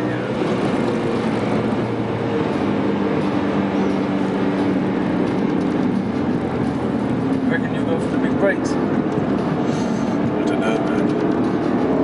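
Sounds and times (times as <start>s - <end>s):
car engine running at speed: 0.0s - 12.0s
tyre and road noise: 0.0s - 12.0s.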